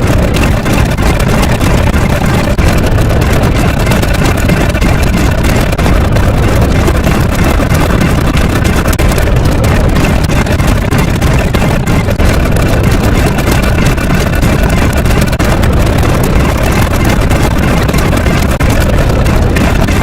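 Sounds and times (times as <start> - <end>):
loud low rumbling: 0.0 - 20.0.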